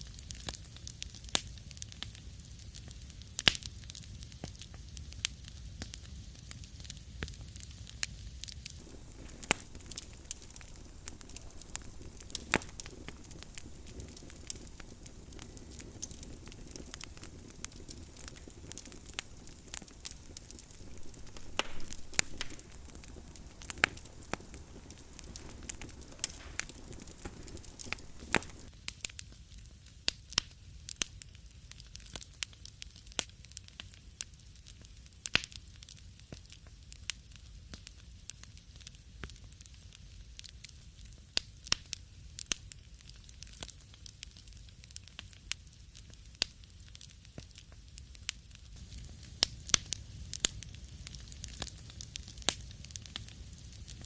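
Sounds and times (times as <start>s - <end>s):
soft fire hiss: 0.0s - 29.4s, 40.0s - 54.0s
wood fire crackling and popping: 0.0s - 54.0s.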